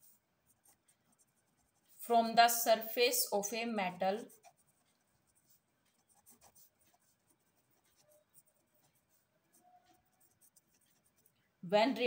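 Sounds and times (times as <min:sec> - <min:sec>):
pen scratching on paper: 0:00.0 - 0:02.1, 0:03.0 - 0:11.4.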